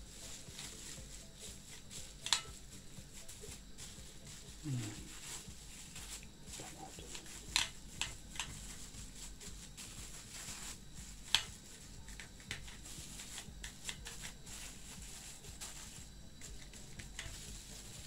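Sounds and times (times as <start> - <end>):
plastic bag and cling film crinkling: 0.0 - 18.0.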